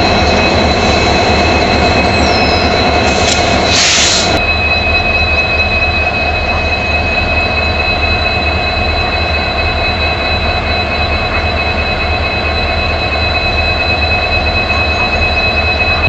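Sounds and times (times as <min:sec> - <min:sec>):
diesel locomotive engine rumble: 0:00.0 - 0:16.0
high-pitched whining tones: 0:00.0 - 0:16.0.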